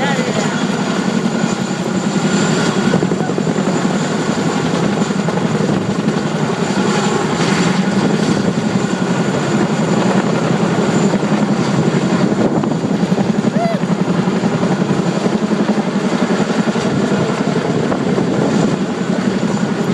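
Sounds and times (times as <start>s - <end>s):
helicopter rotor chopping: 0.0s - 19.9s.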